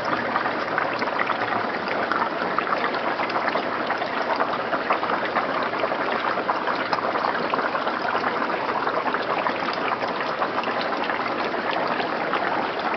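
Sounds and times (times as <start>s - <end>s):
water trickling and bubbling: 0.0s - 12.9s.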